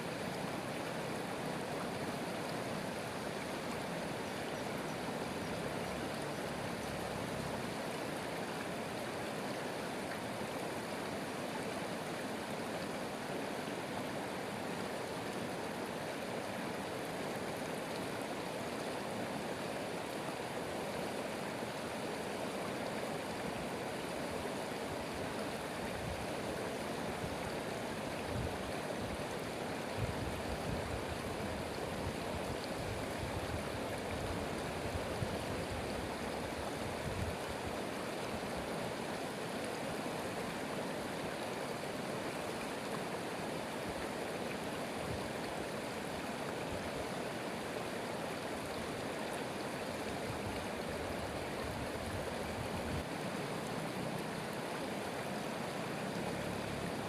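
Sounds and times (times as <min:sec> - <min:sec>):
stream rushing water: 0:00.0 - 0:57.0
water gurgling: 0:00.0 - 0:57.0.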